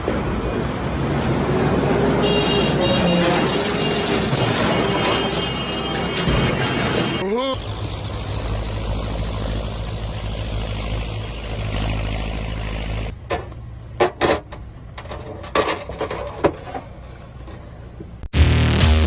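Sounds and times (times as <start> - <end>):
vehicle engine rumbling: 0.0 - 18.5.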